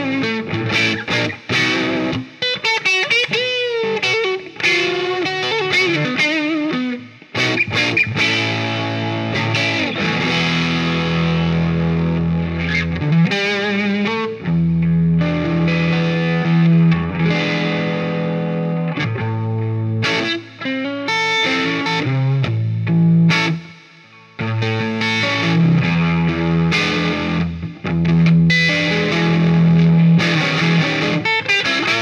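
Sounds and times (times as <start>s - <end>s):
overdriven electric guitar: 0.0s - 32.0s.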